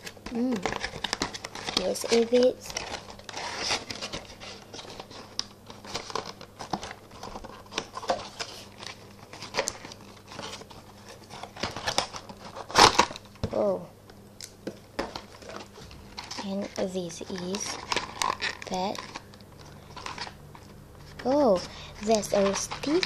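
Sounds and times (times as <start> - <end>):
packaging crinkling and scraping: 0.0 - 13.4, 15.0 - 23.0
loud packaging crackle: 0.0 - 13.5, 14.4 - 23.0.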